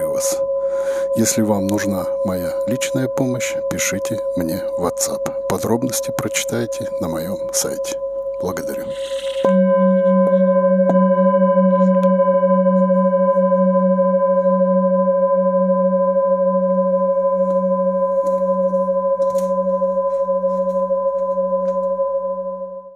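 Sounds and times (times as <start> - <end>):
singing bowls ringing: 0.0 - 22.9.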